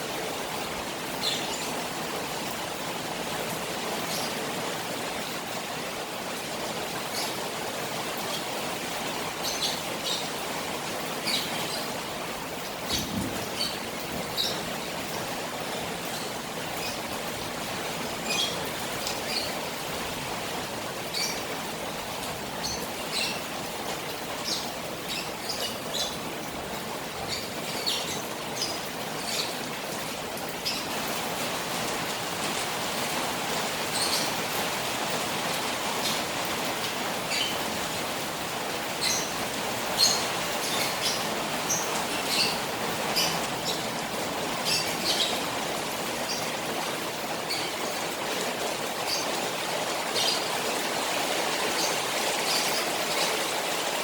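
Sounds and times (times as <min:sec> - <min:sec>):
rain falling on a pond: 0:00.0 - 0:54.0.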